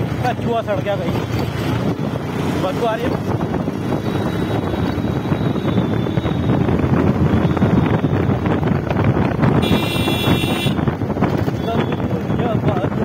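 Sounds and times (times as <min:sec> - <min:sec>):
wind buffeting microphone: 0:00.9 - 0:13.0.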